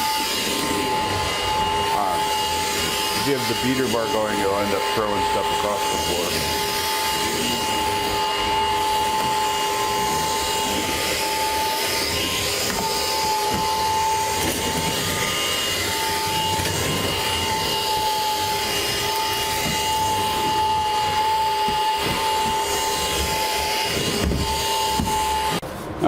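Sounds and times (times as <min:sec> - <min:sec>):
stick vacuum running: 0:00.0 - 0:26.0.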